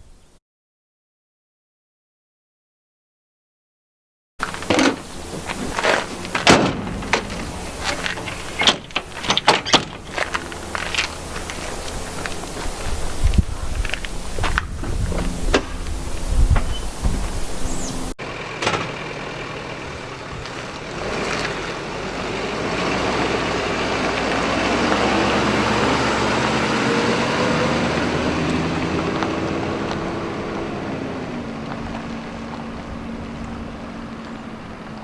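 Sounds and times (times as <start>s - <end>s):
motor vehicle passing by: 5.2s - 9.2s, 9.9s - 35.0s.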